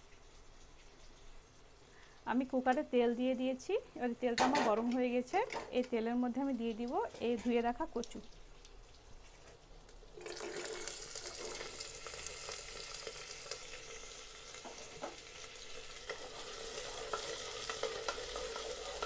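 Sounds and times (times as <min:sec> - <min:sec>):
food sizzling in hot oil: 0:00.0 - 0:09.3, 0:10.0 - 0:19.0.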